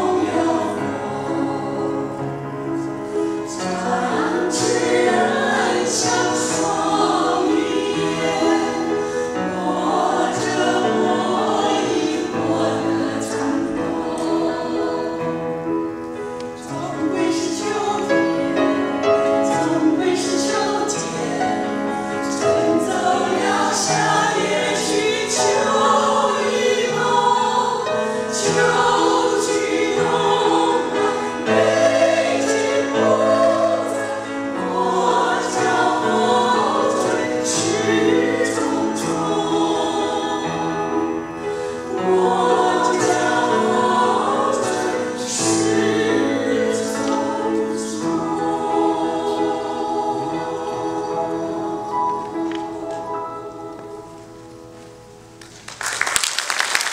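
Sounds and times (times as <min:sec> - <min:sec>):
women's choir singing: 0:00.0 - 0:54.4.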